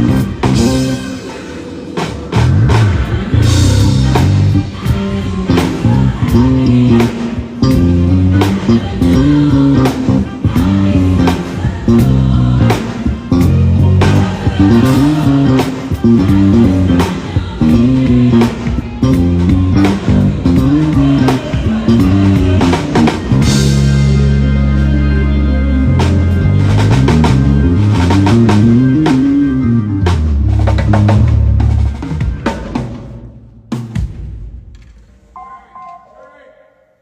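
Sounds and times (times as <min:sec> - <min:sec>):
electric bass line: 0:00.0 - 0:01.3, 0:02.0 - 0:32.5
drum kit beat: 0:00.0 - 0:25.0, 0:25.7 - 0:36.3
guitar: 0:00.0 - 0:33.2.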